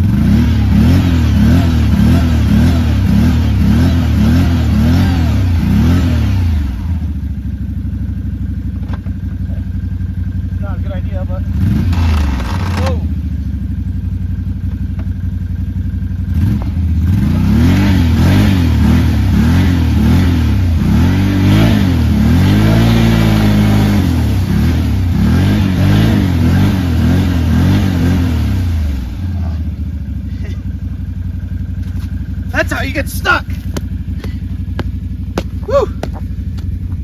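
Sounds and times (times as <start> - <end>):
atv engine idling and revving: 0.0 - 37.0.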